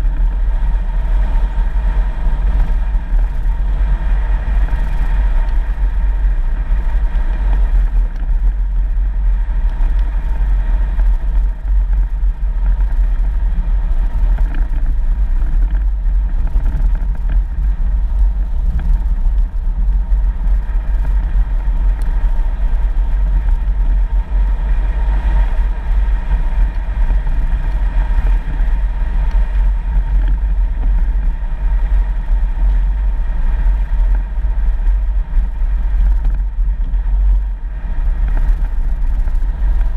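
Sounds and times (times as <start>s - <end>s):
vehicle driving on dirt road: 0.0s - 39.9s.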